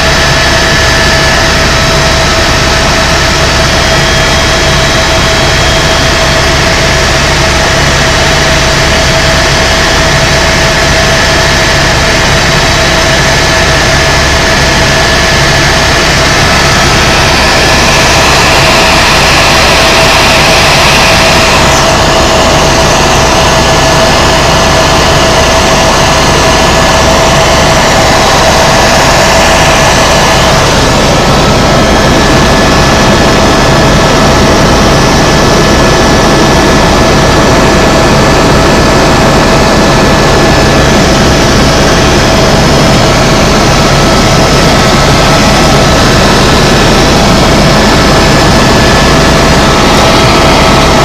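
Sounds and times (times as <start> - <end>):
constant whine: 0.0 - 51.0
helicopter turbine and rotor noise: 0.0 - 51.0.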